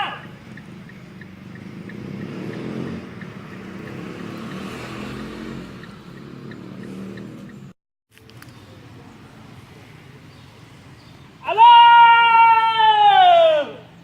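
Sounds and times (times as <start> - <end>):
vehicle engine rumbling: 0.0 - 11.4.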